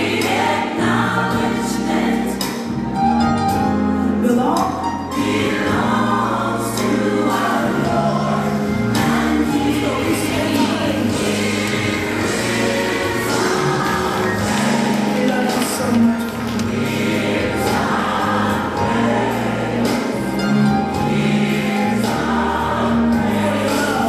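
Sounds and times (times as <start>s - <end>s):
gospel choir singing: 0.0s - 3.0s, 5.0s - 24.0s.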